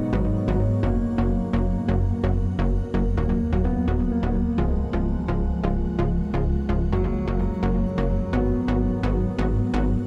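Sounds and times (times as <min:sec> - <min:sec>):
background music with beat and bass: 0:00.0 - 0:10.0.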